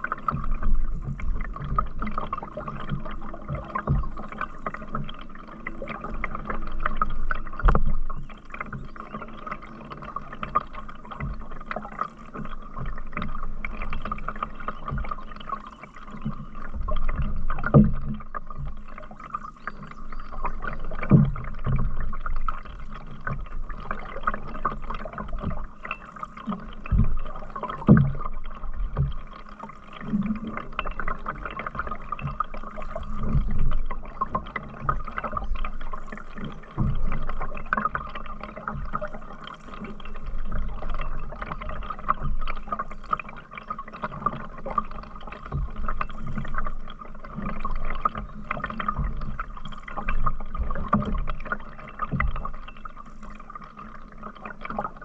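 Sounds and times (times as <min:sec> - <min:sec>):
paddle strokes in water: 0:00.0 - 0:55.0
water gurgling and dripping: 0:00.0 - 0:55.0.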